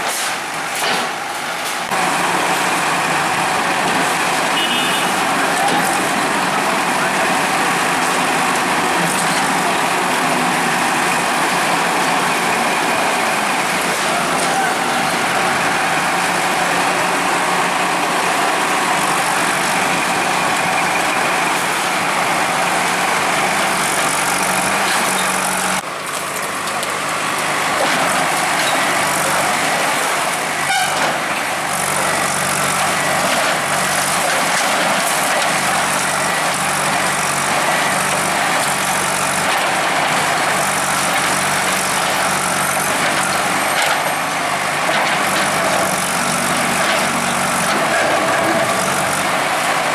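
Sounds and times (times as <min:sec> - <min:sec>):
heavy machinery clatter: 0:00.0 - 0:04.6, 0:05.2 - 0:49.9
bulldozer diesel engine running: 0:00.0 - 0:49.9.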